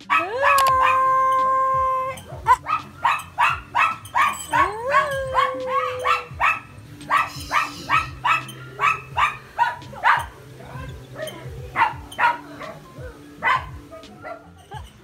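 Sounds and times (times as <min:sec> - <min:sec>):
dog barking: 0:00.0 - 0:14.7.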